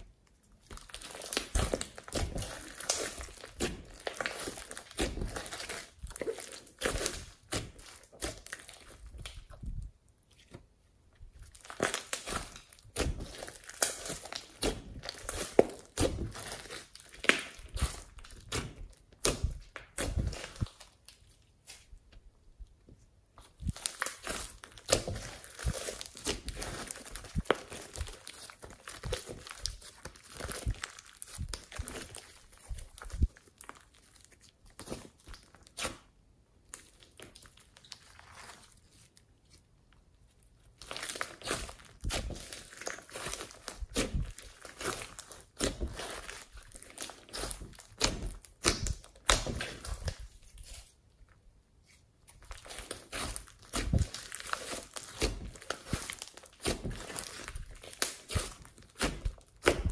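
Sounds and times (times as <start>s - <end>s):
slime squeezed clicking and crackling: 0.5s - 9.5s, 11.4s - 21.2s, 23.7s - 38.6s, 40.7s - 50.8s, 52.4s - 59.9s.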